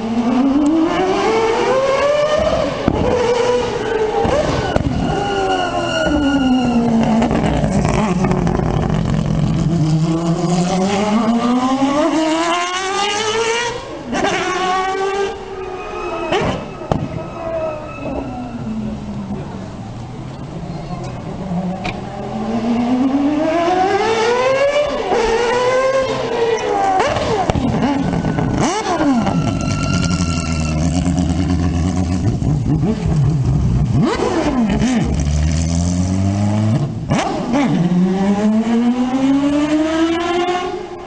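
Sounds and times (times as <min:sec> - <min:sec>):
rotary racing engine revving: 0:00.0 - 0:19.6, 0:21.0 - 0:41.0.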